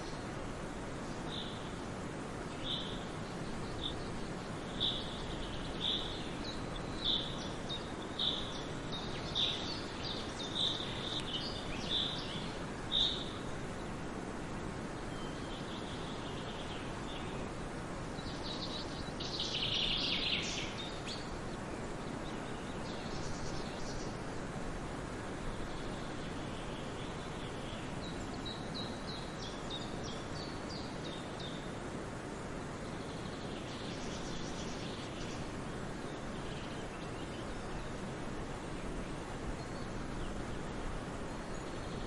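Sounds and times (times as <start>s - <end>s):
background hiss: 0.0s - 42.0s.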